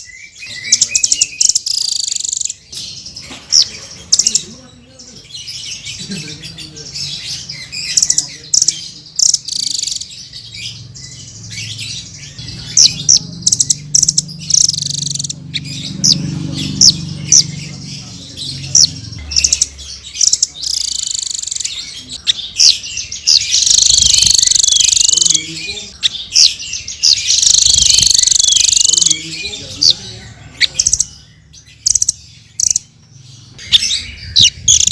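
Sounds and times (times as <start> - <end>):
parrot chirps and trills: 0.0 - 4.6, 5.2 - 34.9.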